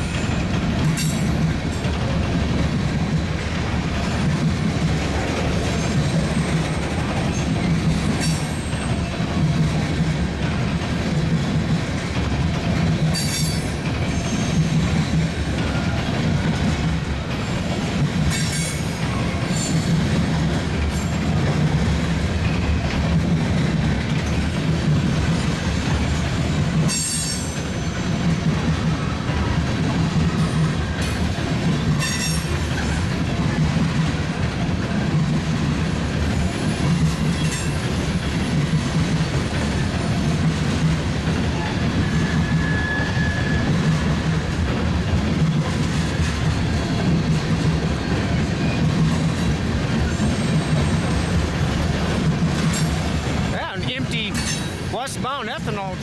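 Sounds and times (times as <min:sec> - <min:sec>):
train wheels squealing and clanking: 0:00.0 - 0:02.3, 0:05.1 - 0:11.0, 0:11.9 - 0:34.1, 0:36.2 - 0:55.1
locomotive engines droning: 0:00.0 - 0:56.0.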